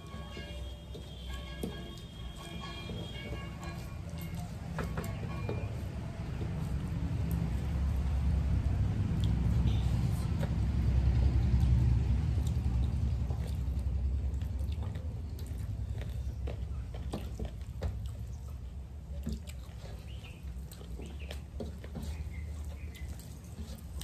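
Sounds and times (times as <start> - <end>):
chewing: 0.0 - 24.0
wet squelching of food mixed by hand: 0.0 - 24.0.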